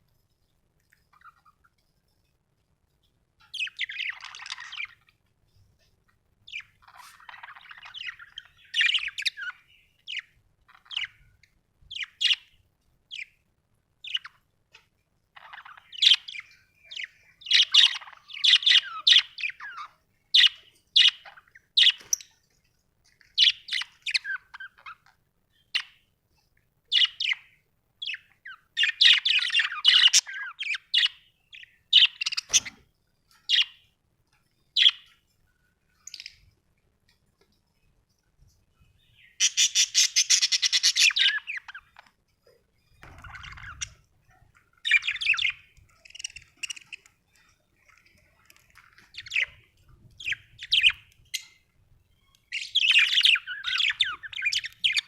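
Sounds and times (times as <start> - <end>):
budgerigars chirping and warbling: 1.1 - 1.8, 3.4 - 5.3, 6.4 - 13.4, 14.0 - 22.5, 23.1 - 26.1, 26.9 - 33.9, 34.7 - 35.2, 35.9 - 36.6, 39.0 - 55.0.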